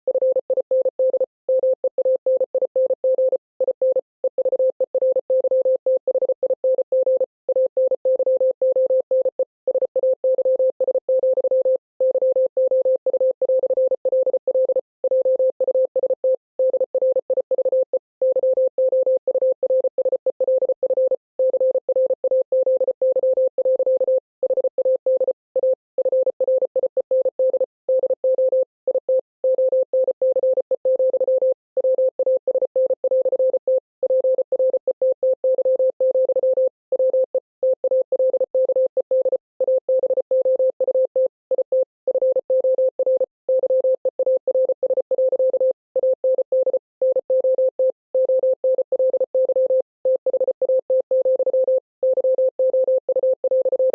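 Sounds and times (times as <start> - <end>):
morse code beeps: 0.1 - 53.9.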